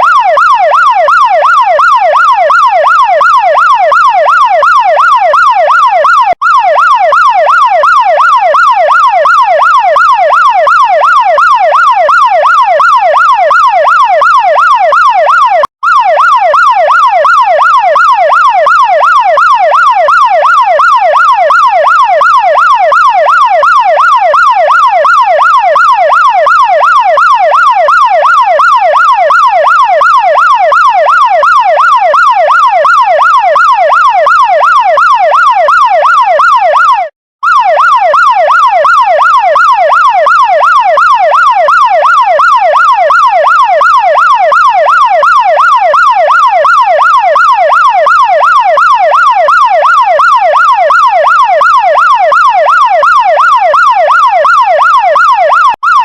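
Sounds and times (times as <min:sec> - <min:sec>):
fire truck siren yelping: 0:00.0 - 0:56.0.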